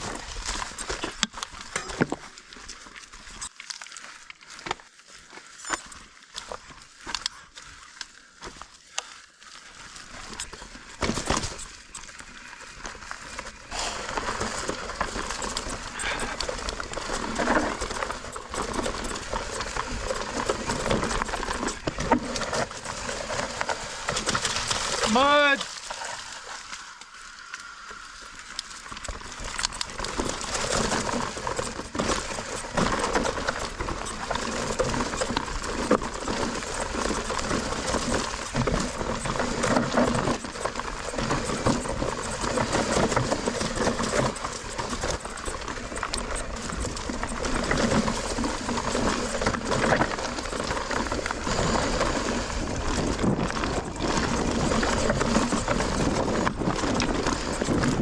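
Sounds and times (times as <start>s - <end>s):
bike clattering over rocks: 9.9s - 26.9s, 28.2s - 58.0s.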